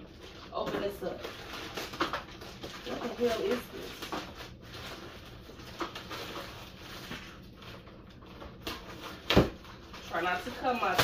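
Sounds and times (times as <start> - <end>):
plastic bag rustling and crinkling: 0.0 - 11.0.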